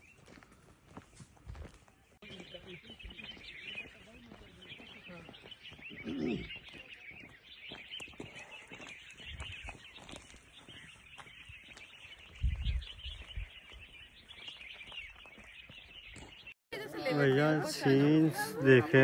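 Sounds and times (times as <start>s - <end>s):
wild birds chirping: 0.0s - 19.0s.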